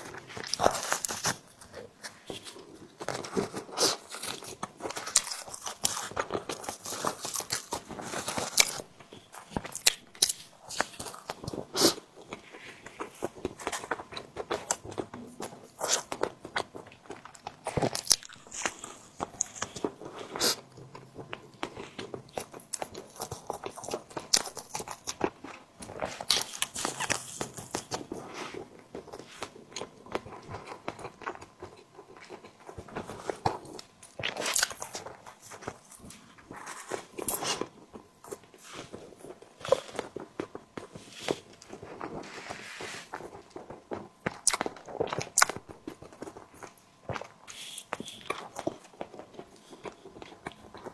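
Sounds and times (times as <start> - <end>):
biting and chewing: 0.0 - 50.9.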